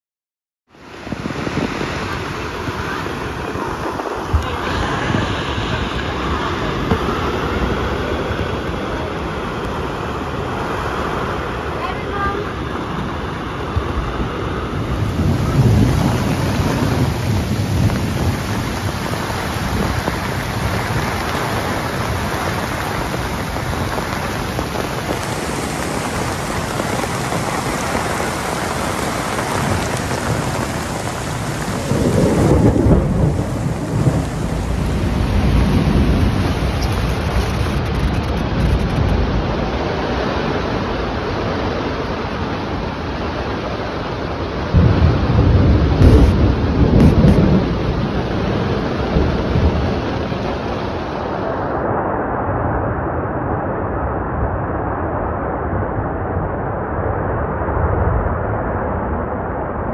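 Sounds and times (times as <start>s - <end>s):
heavy rain pouring: 0.7s - 53.8s
deep thunder rumbles: 1.0s - 11.6s, 12.2s - 41.4s, 44.4s - 59.9s.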